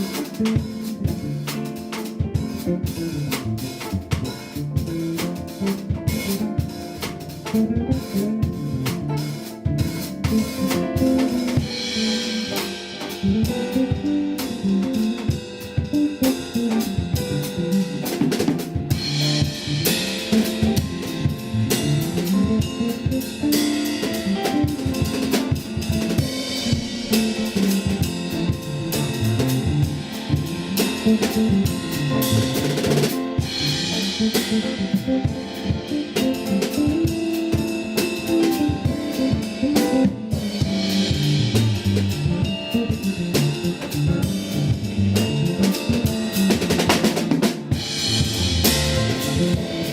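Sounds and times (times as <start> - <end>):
drum kit groove: 0.0 - 49.9
electric bass line: 0.0 - 49.9.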